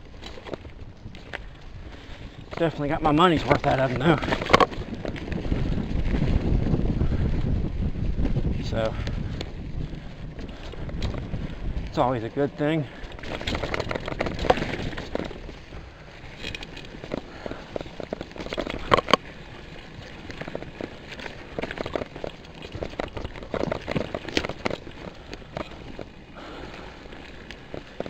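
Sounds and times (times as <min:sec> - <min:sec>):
mountain bike rattling on dirt trail: 0:00.0 - 0:28.0.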